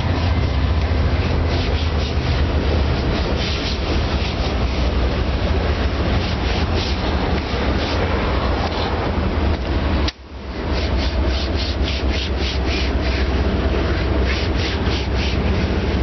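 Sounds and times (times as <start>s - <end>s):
rhythmic scrubbing strokes: 0.0s - 8.2s, 10.6s - 16.0s
steady rushing water: 0.0s - 16.0s.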